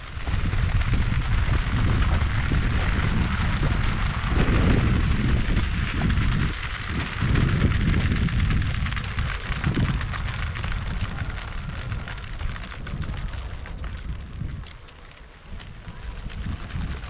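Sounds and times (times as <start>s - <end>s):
low rumble: 0.0s - 14.6s
wind buffeting microphone: 0.0s - 17.0s.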